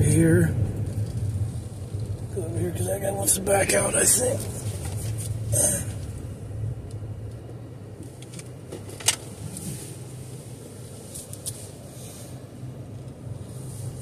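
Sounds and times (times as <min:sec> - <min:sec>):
car cabin low hum: 0:00.0 - 0:14.0.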